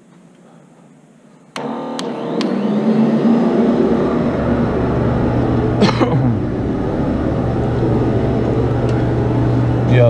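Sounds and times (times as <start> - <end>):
carpet extractor motor whine: 1.6 - 10.0.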